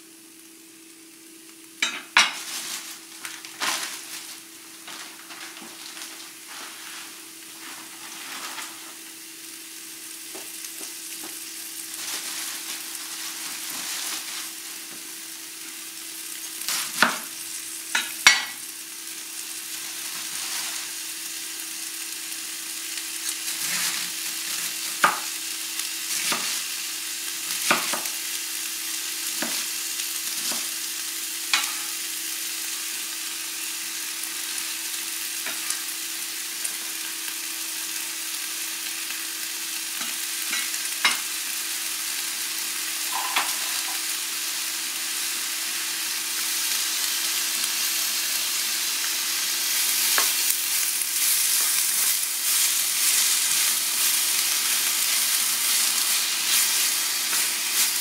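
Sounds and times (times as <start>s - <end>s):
vegetables sizzling in a skillet: 0.0s - 58.0s.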